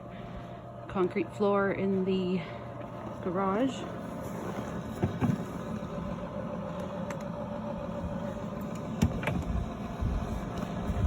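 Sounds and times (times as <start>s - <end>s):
blower fan humming: 0.0s - 11.0s.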